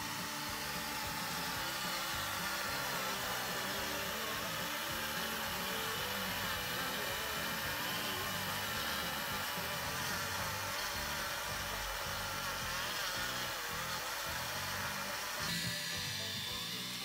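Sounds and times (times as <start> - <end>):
robot lawnmower blade motor whirring: 0.0 - 17.0.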